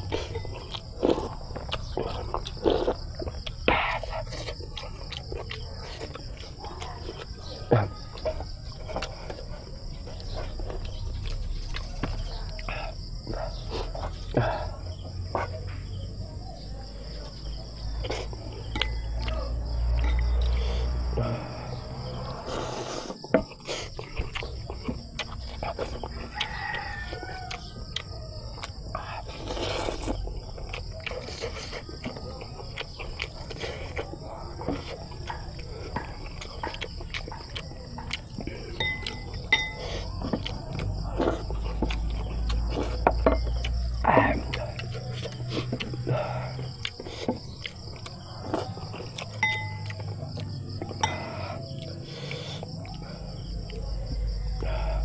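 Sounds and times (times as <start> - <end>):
high insect drone: 0.0 - 55.0
person chewing food: 0.0 - 55.0.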